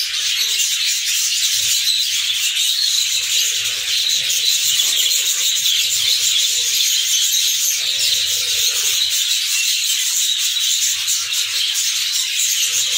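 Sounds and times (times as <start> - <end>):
budgerigars chirping and warbling: 0.0 - 12.9.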